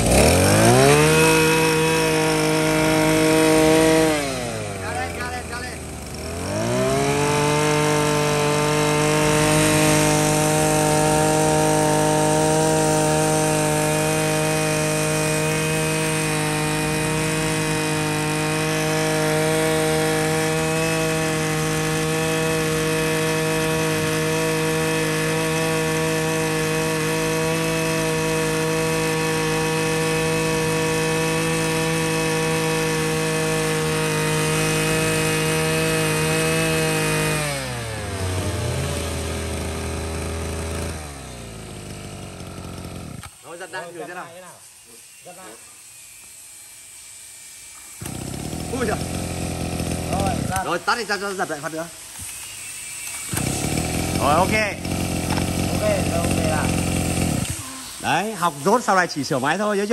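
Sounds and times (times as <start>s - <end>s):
brush cutter engine running: 0.0s - 45.7s, 47.7s - 59.9s.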